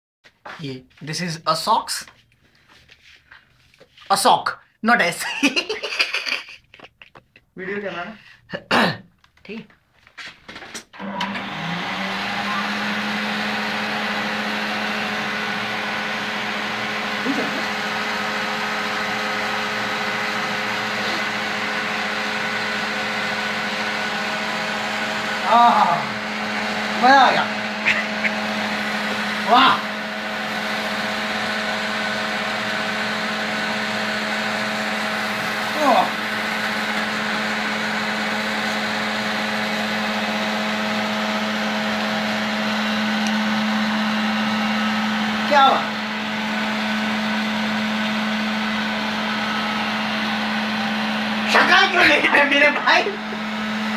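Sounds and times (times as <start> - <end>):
vacuum cleaner running: 10.5 - 53.9.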